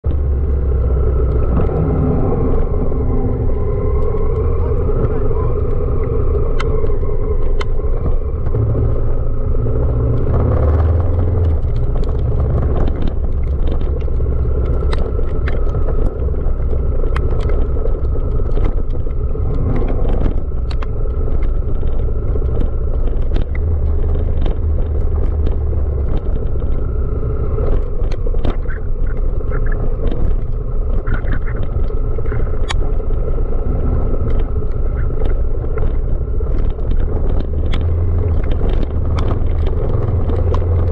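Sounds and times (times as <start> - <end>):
motorcycle engine running: 0.0 - 40.9
sharp clicks and knocks: 3.5 - 40.9.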